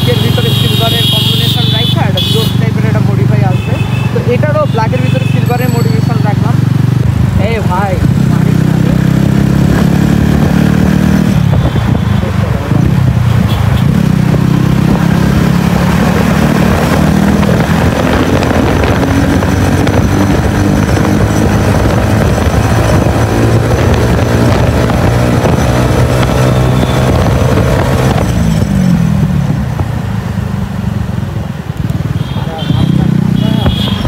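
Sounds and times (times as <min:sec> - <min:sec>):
motorcycle engine running: 0:00.0 - 0:34.0
road noise: 0:00.0 - 0:34.0.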